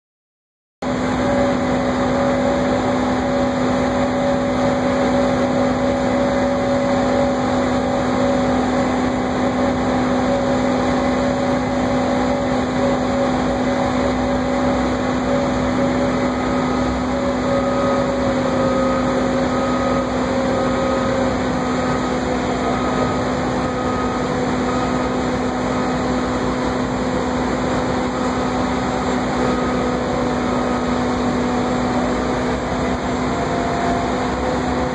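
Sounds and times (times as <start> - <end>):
crane engine running: 0.8 - 34.9.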